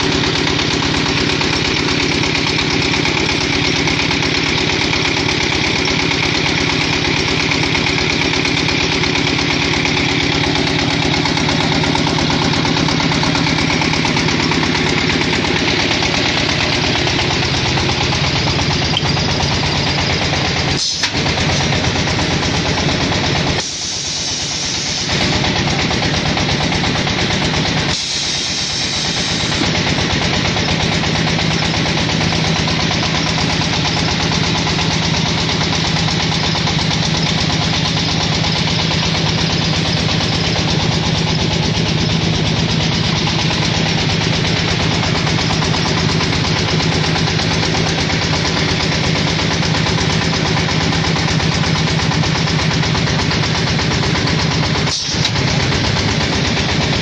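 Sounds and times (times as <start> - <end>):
brick extrusion machine droning: 0.0 - 57.0.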